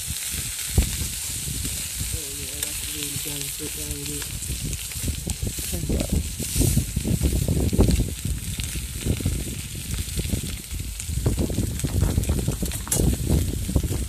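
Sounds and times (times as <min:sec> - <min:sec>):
sausages sizzling on hotplate: 0:00.0 - 0:14.0
wind on microphone: 0:00.0 - 0:14.0.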